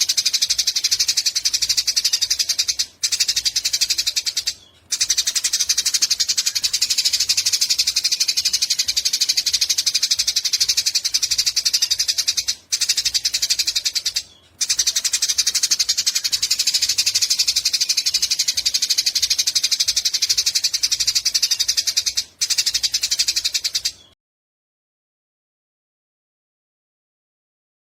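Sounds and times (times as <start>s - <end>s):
sparrow chattering calls: 0.0s - 24.1s.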